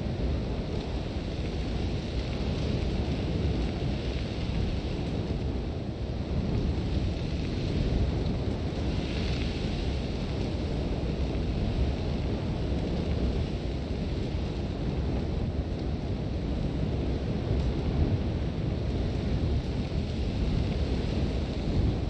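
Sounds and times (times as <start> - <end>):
strong wind blowing: 0.0 - 22.0
wind buffeting microphone: 0.0 - 22.0.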